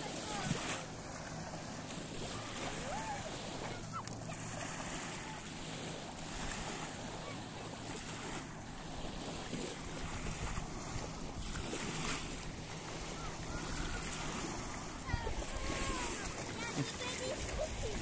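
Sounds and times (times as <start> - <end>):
small waves breaking on sand: 0.0 - 18.0
wind: 0.0 - 18.0.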